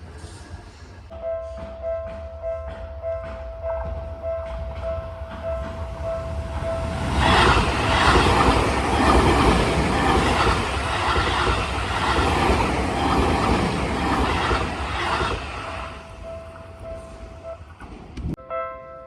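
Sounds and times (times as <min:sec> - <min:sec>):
train wheels clattering: 0:00.0 - 0:18.4
level crossing warning bell: 0:01.1 - 0:17.8.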